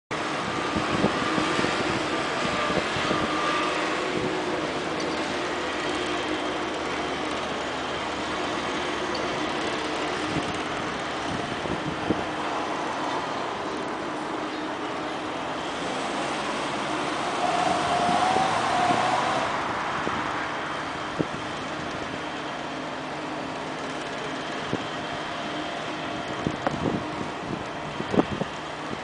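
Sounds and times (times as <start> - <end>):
engine humming: 0.1 - 29.0.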